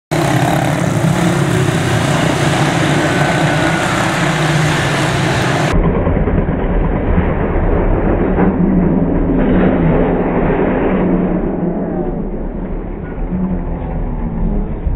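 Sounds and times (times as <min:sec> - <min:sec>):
race car engines droning: 0:00.1 - 0:14.9.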